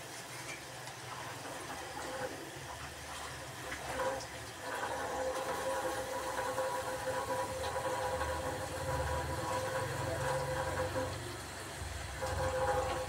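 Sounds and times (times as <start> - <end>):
fries sizzling in oil: 0.0 - 13.0.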